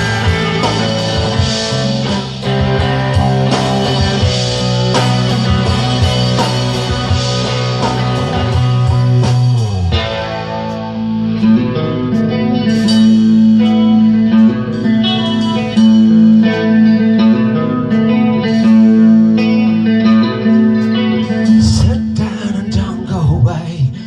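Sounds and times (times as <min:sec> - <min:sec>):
guitar melody: 0:00.0 - 0:24.0.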